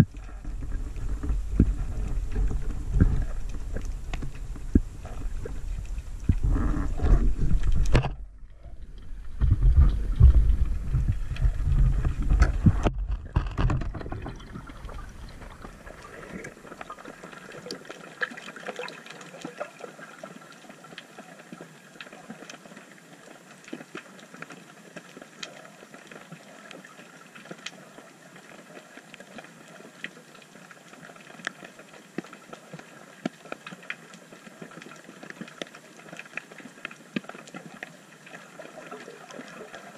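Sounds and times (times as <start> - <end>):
faint crackling clicks: 0.0 - 39.9
quiet underwater hiss: 0.0 - 39.9
underwater rush of moving water: 0.0 - 39.9.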